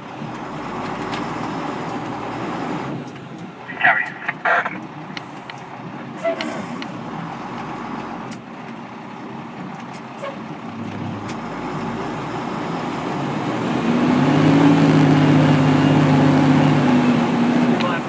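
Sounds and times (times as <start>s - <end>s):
fire engine driving: 0.0s - 18.0s.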